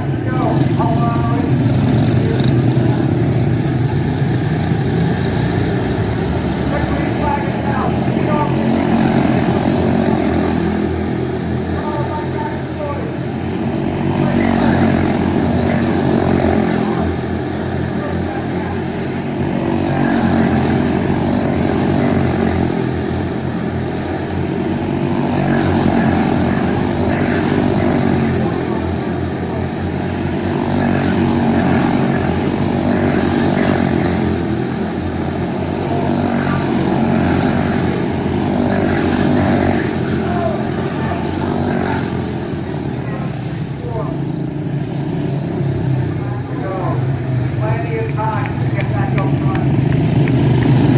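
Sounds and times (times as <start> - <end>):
small race car engines running laps: 0.0 - 50.9.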